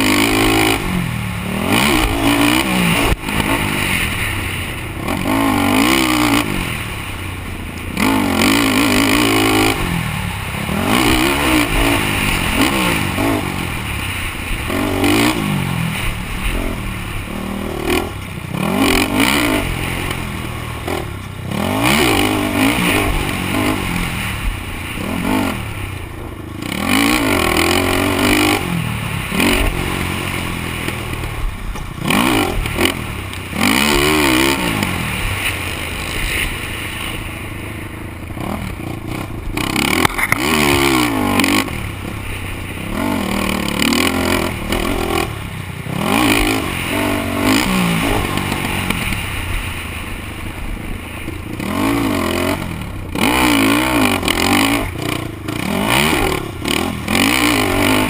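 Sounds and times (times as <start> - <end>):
quad engine revving: 0.0 - 58.0
rattling from rough ground: 0.0 - 58.0.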